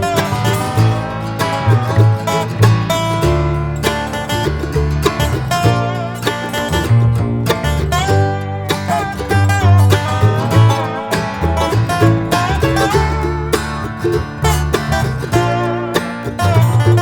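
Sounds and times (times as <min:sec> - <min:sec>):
bass line: 0:00.0 - 0:17.0
guitar: 0:00.0 - 0:17.0
plucked banjo: 0:00.0 - 0:17.0.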